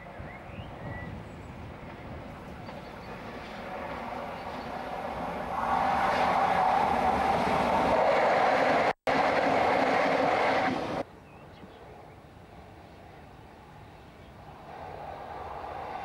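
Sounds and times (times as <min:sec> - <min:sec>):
diesel locomotives passing: 0:00.0 - 0:11.1, 0:12.5 - 0:16.0.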